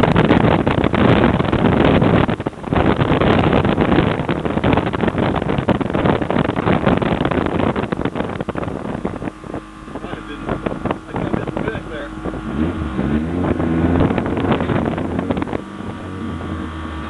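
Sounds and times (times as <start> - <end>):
car engine inside cabin: 0.0 - 17.0
wind noise: 0.0 - 17.0.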